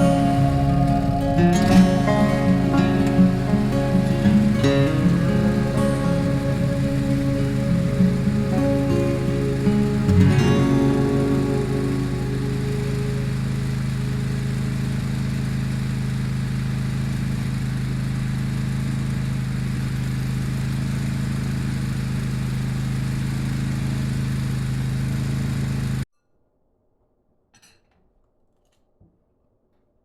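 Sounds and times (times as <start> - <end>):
snowblower engine running: 0.0 - 26.0.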